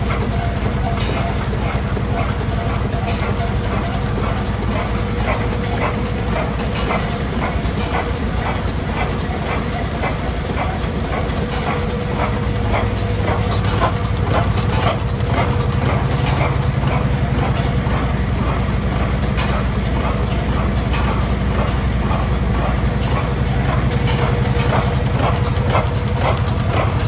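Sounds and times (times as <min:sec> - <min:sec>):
oil engines knocking steadily: 0:00.0 - 0:27.0.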